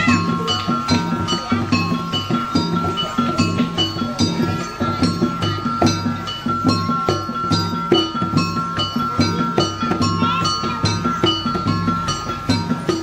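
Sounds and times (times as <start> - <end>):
drums steady beat: 0.0 - 13.0
gong: 0.0 - 13.0
ringing struck metal notes: 0.0 - 13.0.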